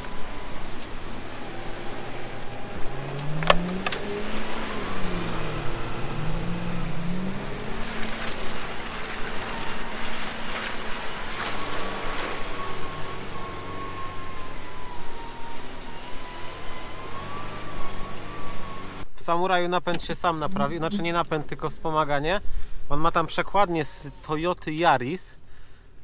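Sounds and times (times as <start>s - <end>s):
off-road engine revving: 0.0s - 19.1s, 20.2s - 22.2s.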